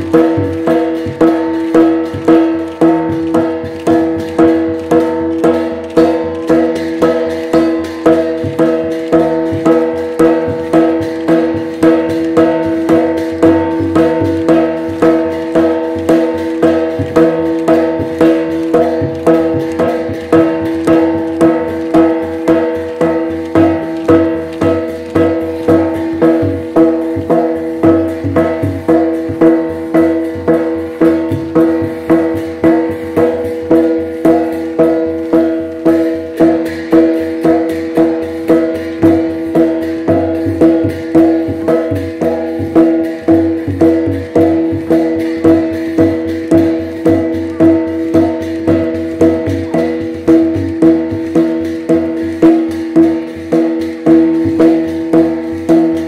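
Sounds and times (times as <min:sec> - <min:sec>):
drum beating steady rhythm: 0:00.0 - 0:56.0
gongs ringing: 0:00.0 - 0:56.0.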